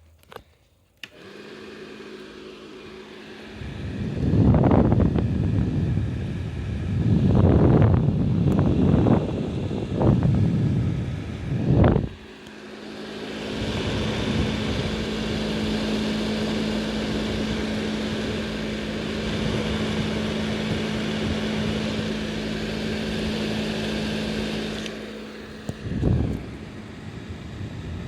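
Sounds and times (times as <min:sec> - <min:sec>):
hair dryer running: 0:01.0 - 0:28.0.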